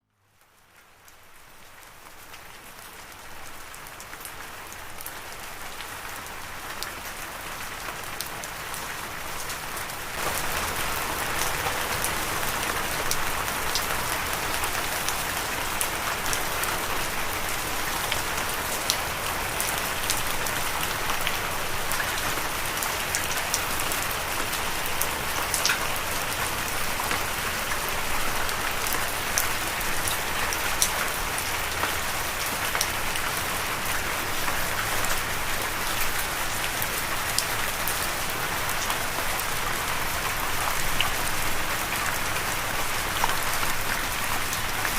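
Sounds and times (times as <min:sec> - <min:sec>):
steady rain: 0:00.1 - 0:44.9.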